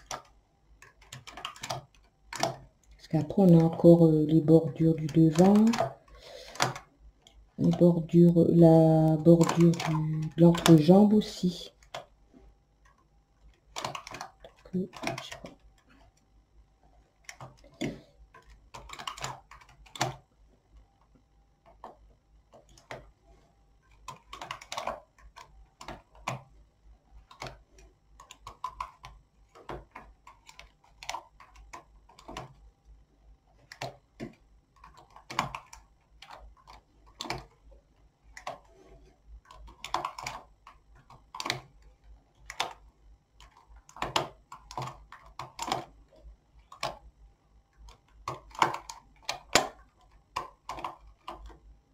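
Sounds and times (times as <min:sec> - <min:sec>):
knitting needles clicking: 0:00.0 - 0:12.1, 0:12.8 - 0:16.2, 0:17.2 - 0:20.2, 0:23.8 - 0:26.5, 0:27.2 - 0:32.6, 0:33.6 - 0:37.6, 0:39.4 - 0:47.1, 0:47.8 - 0:51.6.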